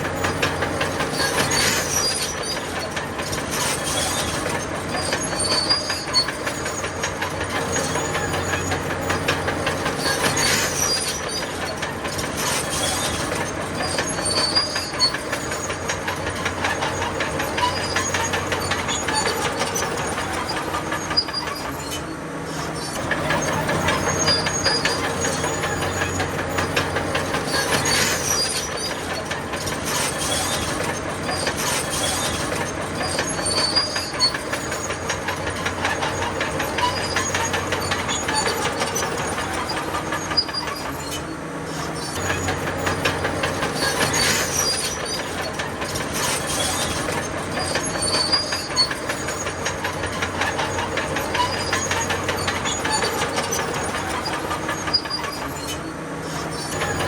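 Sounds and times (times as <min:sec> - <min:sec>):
bulldozer diesel engine: 0:00.0 - 0:57.0
steel tracks clattering: 0:00.0 - 0:57.0
track links squealing: 0:00.0 - 0:57.0.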